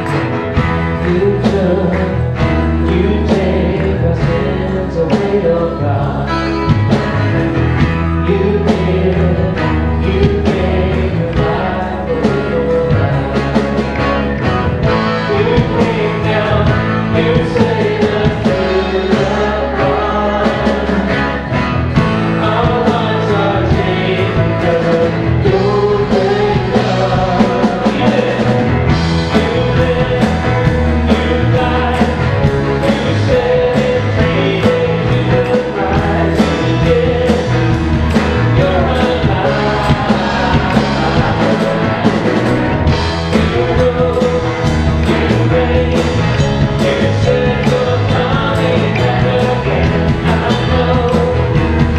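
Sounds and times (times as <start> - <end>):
low bass notes: 0.0 - 51.9
man singing lead: 0.0 - 51.9.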